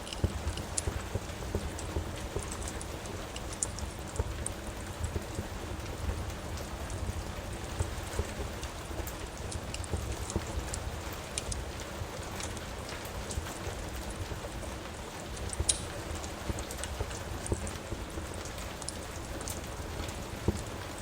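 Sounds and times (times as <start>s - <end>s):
steady rain falling: 0.0s - 21.0s
wood fire crackling: 0.0s - 21.0s.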